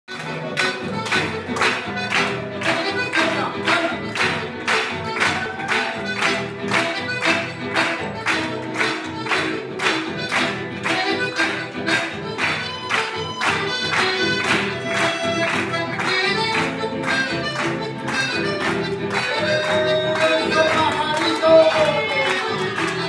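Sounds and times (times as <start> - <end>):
accordion melody: 0.1 - 23.0
acoustic guitars strumming: 0.1 - 23.0.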